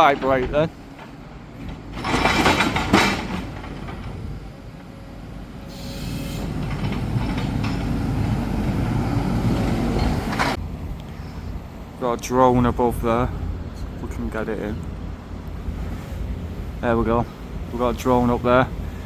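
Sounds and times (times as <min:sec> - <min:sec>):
excavator engine rumbling: 0:00.0 - 0:19.0.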